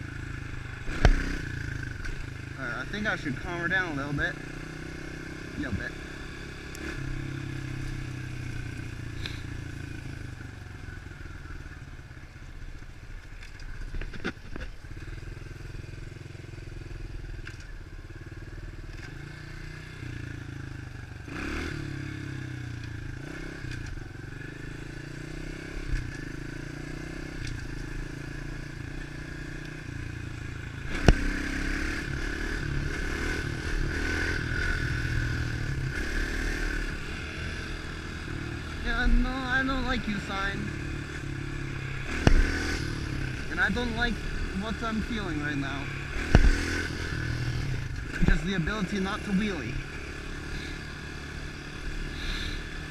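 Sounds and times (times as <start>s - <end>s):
pit bike engine revving: 0.0s - 10.3s, 14.8s - 52.9s.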